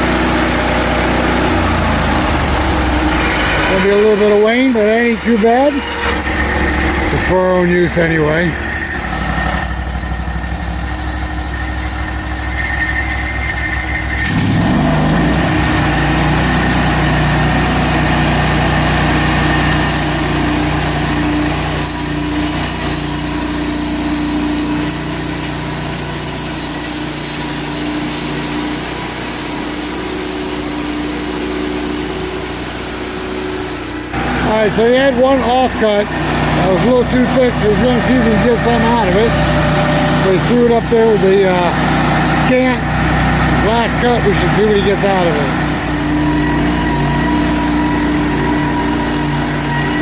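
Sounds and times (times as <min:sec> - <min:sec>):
band blade humming in log: 0:00.0 - 0:10.1, 0:11.4 - 0:50.0
sawmill engine running: 0:00.0 - 0:50.0.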